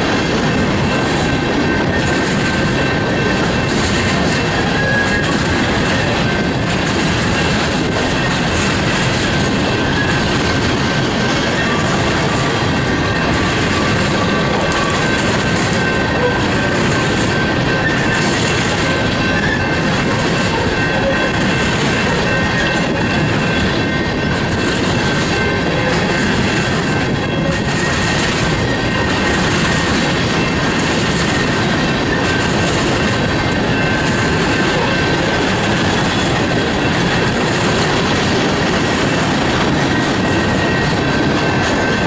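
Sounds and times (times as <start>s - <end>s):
high wheel squeal: 0.0s - 42.0s
steel wheels rumbling on rail: 0.0s - 42.0s.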